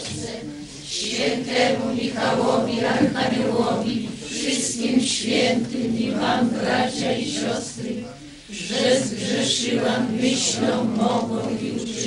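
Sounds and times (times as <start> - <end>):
congregation singing a hymn: 0.0 - 12.0.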